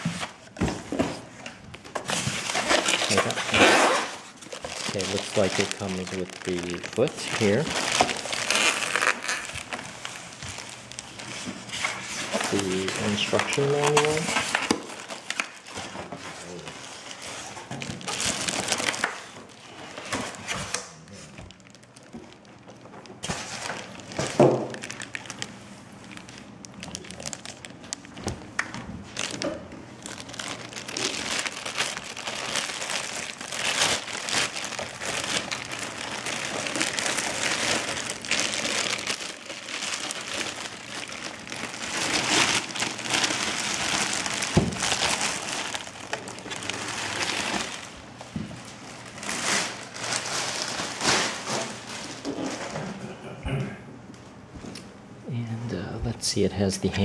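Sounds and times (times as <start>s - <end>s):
plastic bag crinkling: 1.7s - 52.7s.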